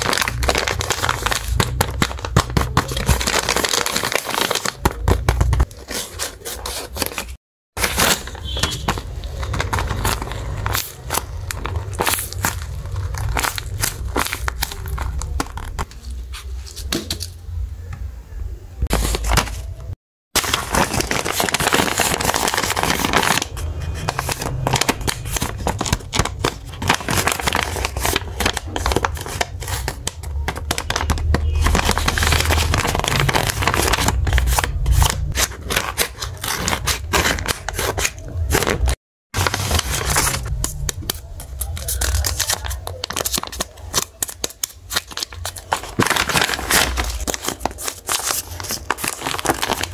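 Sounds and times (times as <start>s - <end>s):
paper and plastic crinkling: 0.0s - 17.4s, 18.8s - 49.9s.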